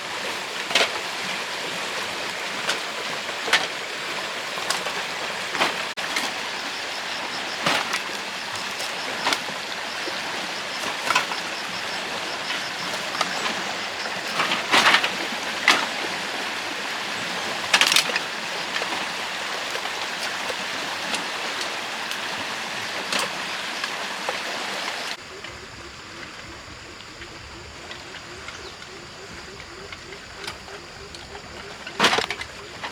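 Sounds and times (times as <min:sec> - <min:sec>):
flowing water rushing: 0:00.0 - 0:32.9.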